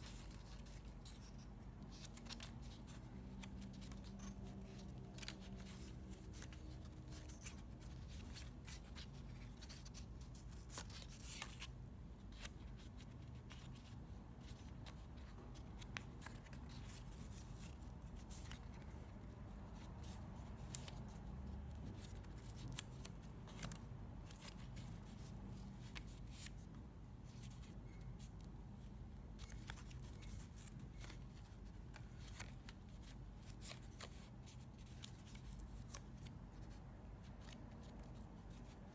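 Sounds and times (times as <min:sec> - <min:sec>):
faint low room hum: 0:00.0 - 0:38.9
paper crinkling and creasing: 0:00.0 - 0:38.9.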